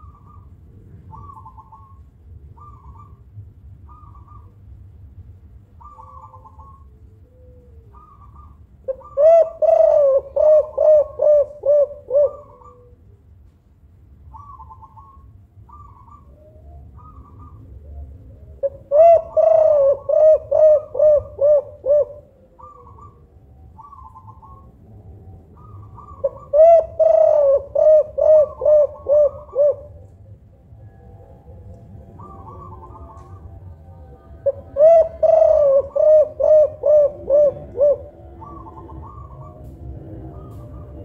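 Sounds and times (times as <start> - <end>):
dove cooing: 0.0 - 3.2, 3.8 - 4.6, 5.8 - 13.2, 14.3 - 41.0
faint high bird calls: 0.0 - 4.8, 5.7 - 13.5, 14.2 - 41.0.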